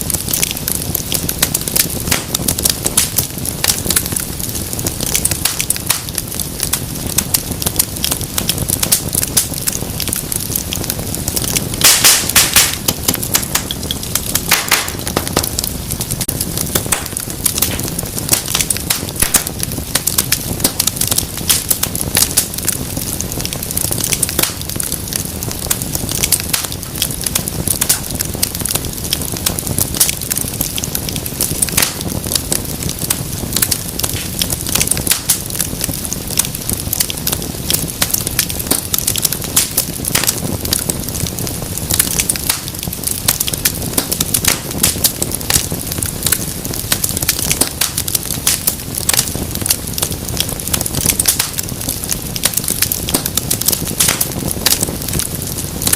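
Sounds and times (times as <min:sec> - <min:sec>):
fire crackling and snapping: 0:00.0 - 0:55.9
loud fire pops: 0:00.0 - 0:55.9
low rumble of flame: 0:00.0 - 0:55.9.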